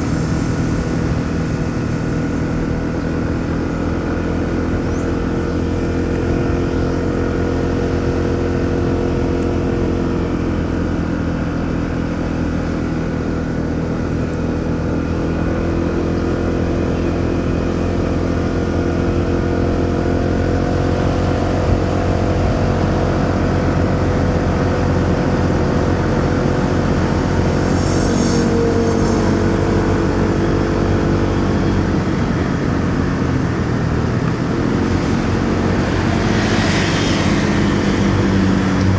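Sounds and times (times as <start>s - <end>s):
motorcycle engine running: 0.0s - 38.9s
traffic noise: 0.0s - 38.9s.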